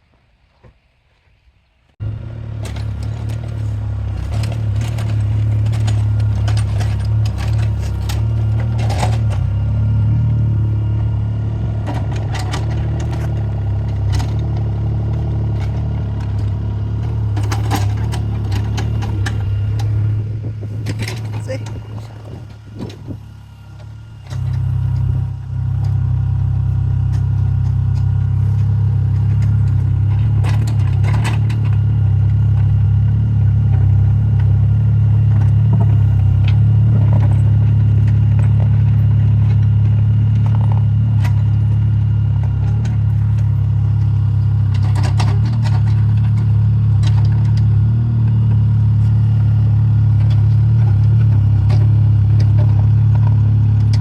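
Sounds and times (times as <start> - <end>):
diesel engine running: 2.0 - 54.0.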